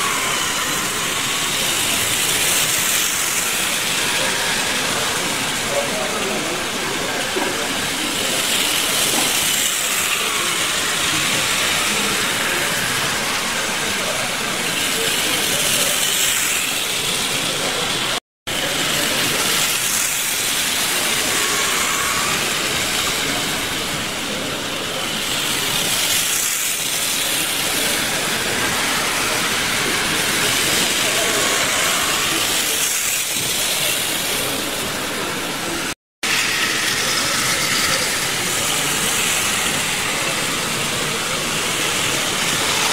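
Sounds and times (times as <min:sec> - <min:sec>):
model trains whirring: 0:00.0 - 0:42.9.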